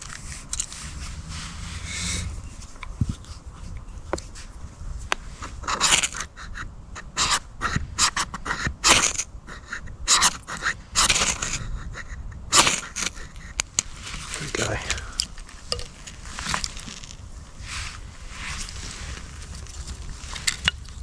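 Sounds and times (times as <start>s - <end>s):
sharp scraping strokes: 0.0s - 4.5s, 5.2s - 6.3s, 7.0s - 9.3s, 10.1s - 11.6s, 12.5s - 20.6s.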